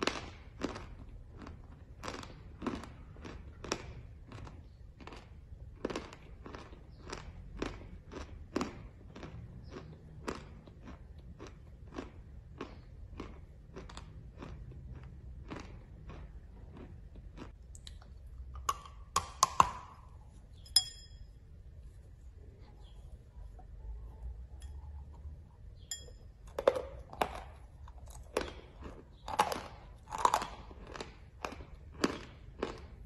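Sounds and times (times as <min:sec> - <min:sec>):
person chewing chalk: 0:00.0 - 0:20.4, 0:22.6 - 0:33.0.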